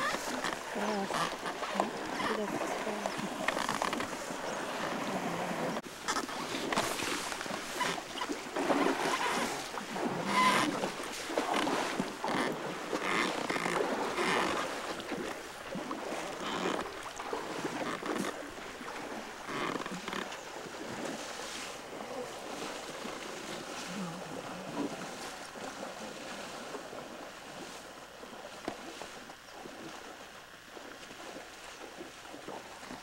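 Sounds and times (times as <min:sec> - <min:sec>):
elephant splashing in water: 0:00.0 - 0:33.0.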